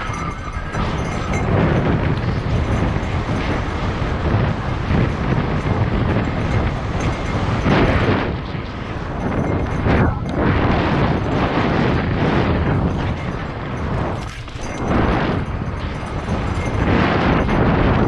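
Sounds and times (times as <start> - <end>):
bike rattling over bumps: 0.0 - 18.0
wind noise on microphone: 0.0 - 18.0.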